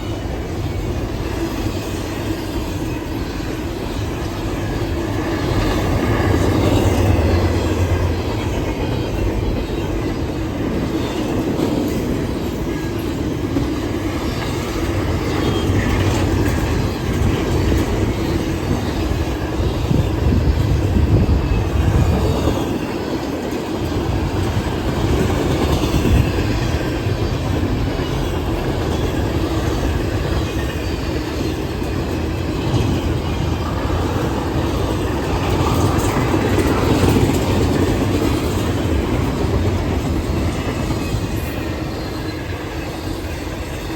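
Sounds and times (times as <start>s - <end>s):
train cars rumbling past: 0.0s - 43.9s.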